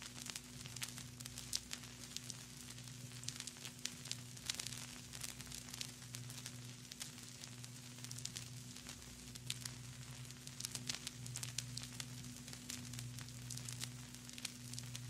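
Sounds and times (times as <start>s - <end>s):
vinyl crackles and pops: 0.0s - 15.0s.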